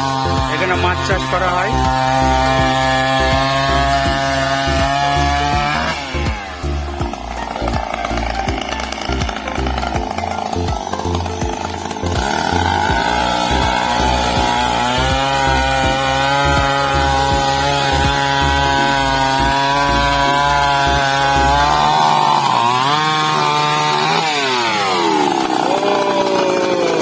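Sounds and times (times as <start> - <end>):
chainsaw cutting tree: 0.0 - 27.0.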